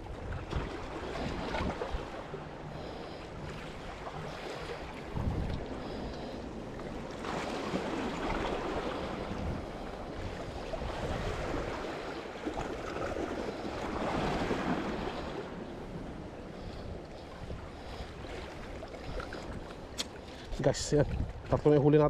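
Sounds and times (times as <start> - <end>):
sea waves washing against rocks: 0.2 - 22.0.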